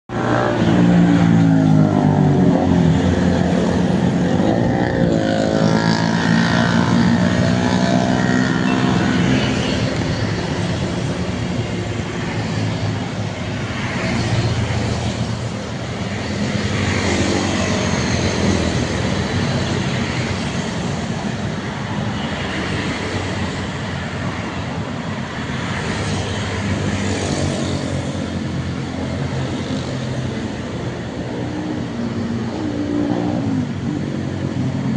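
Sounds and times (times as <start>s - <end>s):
vehicles passing by: 0.1s - 34.9s.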